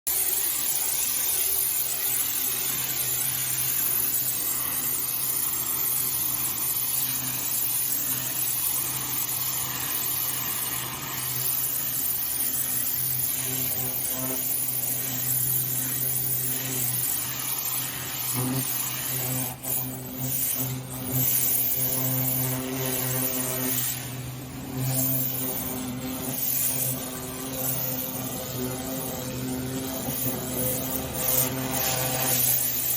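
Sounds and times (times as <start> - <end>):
pressure washer motor hum: 2.2 - 32.9.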